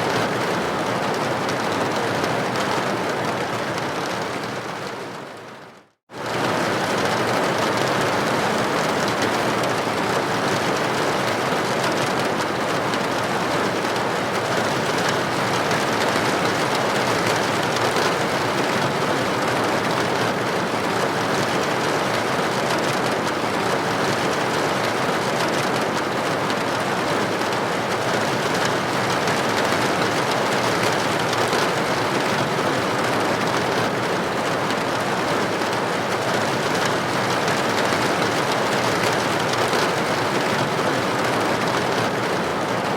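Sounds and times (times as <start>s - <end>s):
rain on a window: 0.0s - 42.9s.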